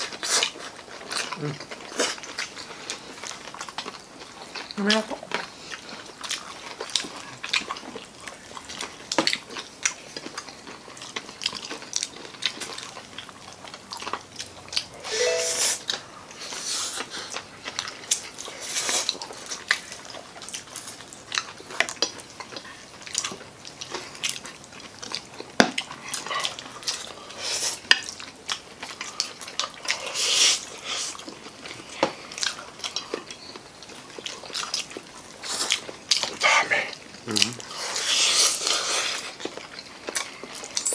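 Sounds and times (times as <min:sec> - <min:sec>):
people chewing and biting: 0:00.0 - 0:40.9.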